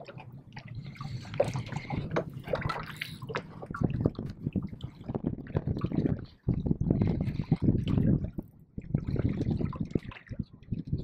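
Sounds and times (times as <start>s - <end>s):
water sloshing against boat: 0.0s - 11.0s.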